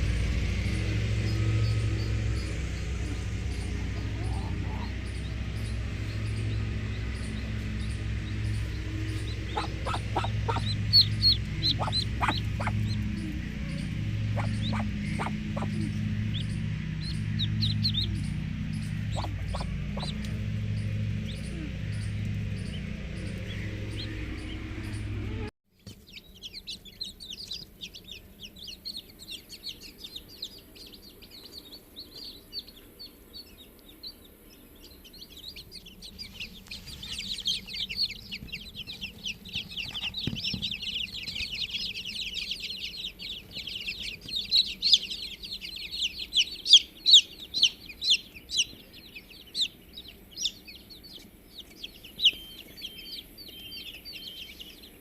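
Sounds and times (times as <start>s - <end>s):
low sound cutting off: 0.0s - 25.5s, 26.1s - 55.0s
birds chirping in chorus: 0.0s - 55.0s.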